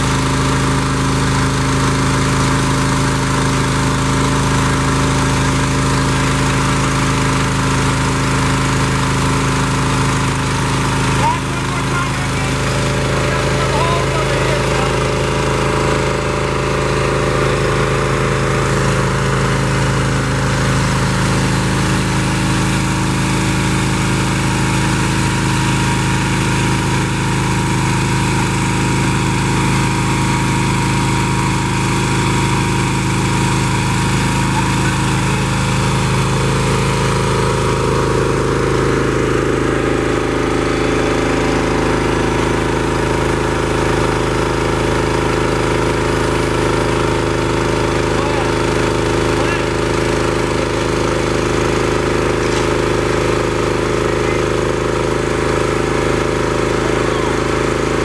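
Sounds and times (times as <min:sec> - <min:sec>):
small engine running under load: 0:00.0 - 0:58.0.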